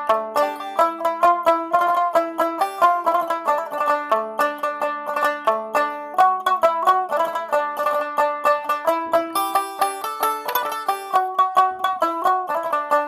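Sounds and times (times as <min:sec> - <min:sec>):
plucked-string tune: 0:00.0 - 0:13.0.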